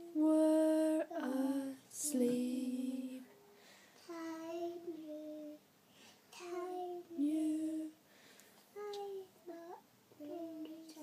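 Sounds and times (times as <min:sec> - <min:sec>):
person singing a lullaby softly: 0:00.0 - 0:11.0.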